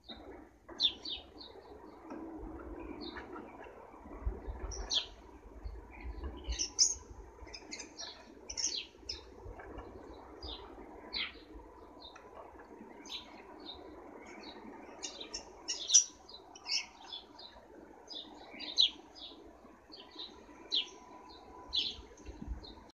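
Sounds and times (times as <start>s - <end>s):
faint low background noise: 0.0s - 22.9s
garden birds chirping: 0.0s - 22.9s.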